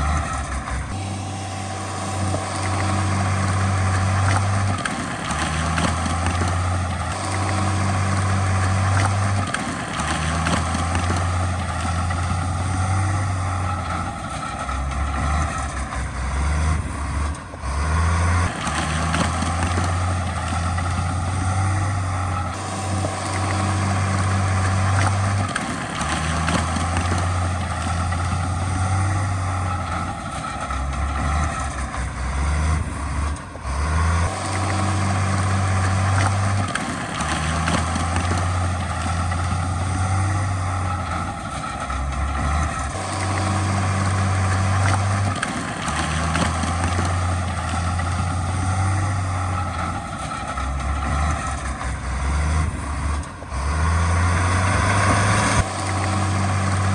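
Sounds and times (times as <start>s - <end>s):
diesel machinery engine under load: 0.0s - 56.9s.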